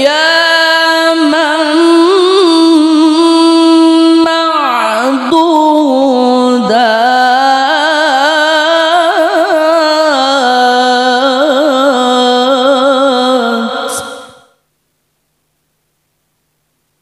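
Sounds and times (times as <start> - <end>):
man chanting melismatic recitation: 0.0 - 14.5.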